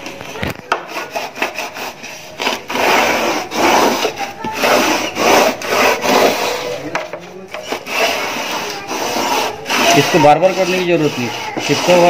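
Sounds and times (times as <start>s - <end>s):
vacuum attachment scraping a track: 0.2s - 12.0s.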